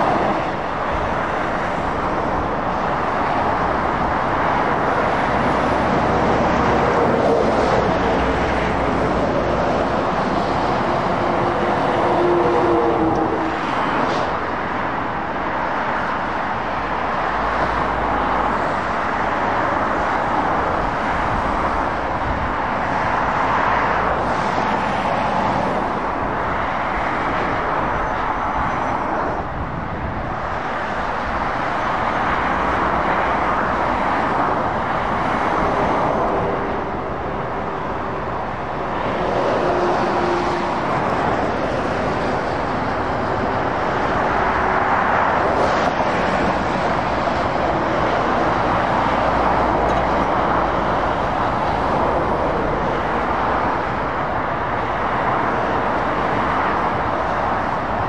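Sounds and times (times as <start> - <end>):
traffic passing by: 0.0 - 58.0.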